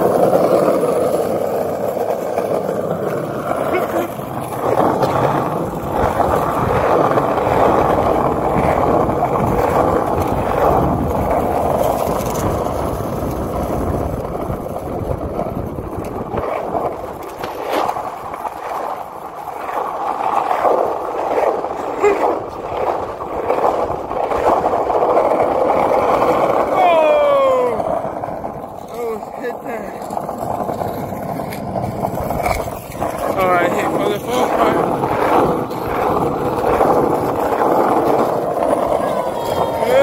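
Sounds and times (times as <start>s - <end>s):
small hard wheels rolling on concrete: 0.0s - 40.0s.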